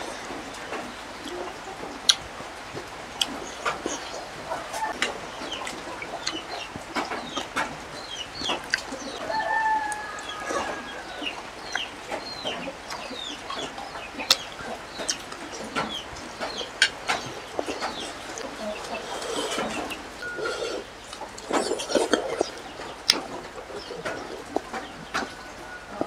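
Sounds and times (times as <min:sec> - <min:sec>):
mouth clicks and smacks eating: 0:00.0 - 0:09.2, 0:09.8 - 0:26.0
chickens clucking: 0:00.0 - 0:26.0.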